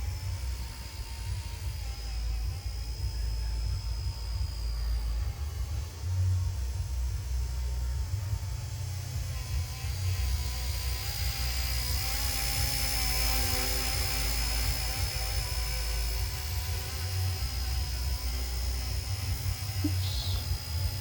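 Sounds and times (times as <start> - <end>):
model helicopter motor whine: 0.0 - 21.0.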